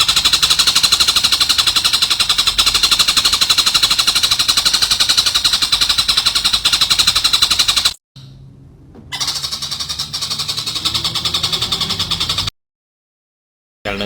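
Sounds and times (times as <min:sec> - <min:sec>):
songbird rattling trill: 0:00.0 - 0:08.0, 0:09.2 - 0:12.5.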